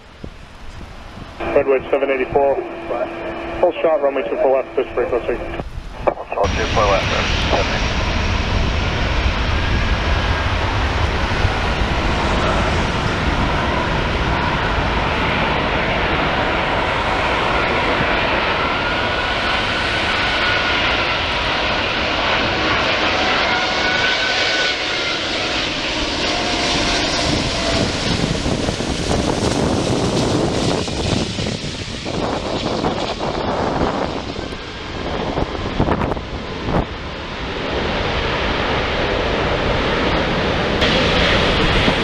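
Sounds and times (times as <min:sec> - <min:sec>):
jet engine whining: 0:00.0 - 0:42.0
jet engines roaring: 0:00.0 - 0:42.0.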